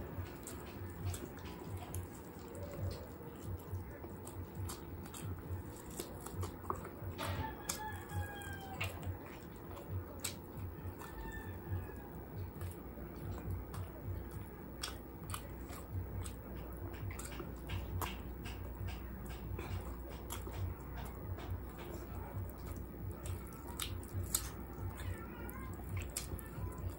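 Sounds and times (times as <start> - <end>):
chewing and biting food: 0.0 - 26.9
steady low hum: 0.0 - 26.9
wet clicks and smacks: 0.0 - 26.9.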